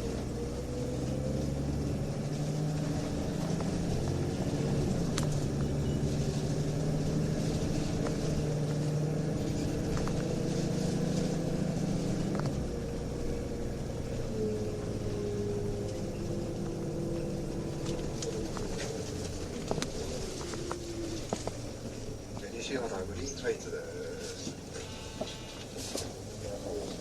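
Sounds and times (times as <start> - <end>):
bus diesel engine pulling: 0.0 - 27.0.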